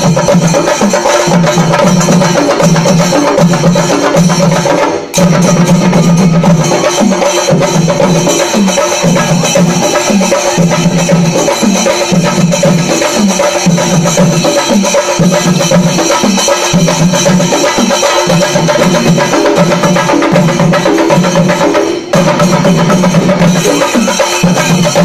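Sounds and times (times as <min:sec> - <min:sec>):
percussion ensemble drumming: 0:00.0 - 0:25.0.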